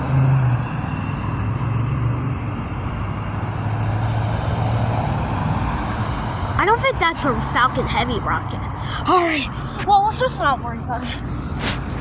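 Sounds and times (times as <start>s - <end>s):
road noise: 0.0s - 12.0s
traffic engine rumble: 0.0s - 12.0s.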